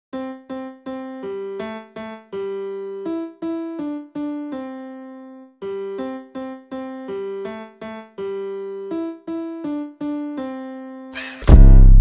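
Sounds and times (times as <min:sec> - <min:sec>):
electric piano melody: 0:00.1 - 0:11.2.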